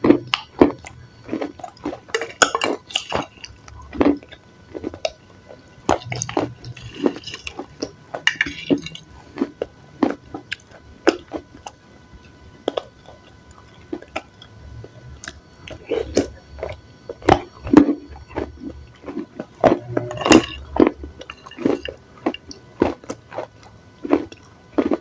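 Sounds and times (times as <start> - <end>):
chewing salad: 0.0 - 25.0.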